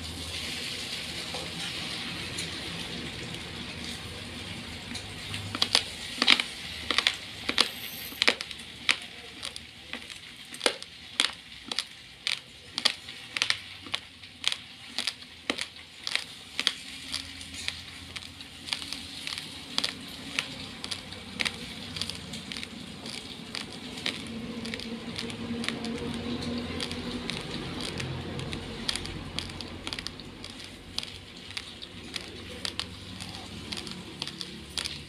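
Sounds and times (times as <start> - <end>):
rice grains crunching: 4.6 - 35.0.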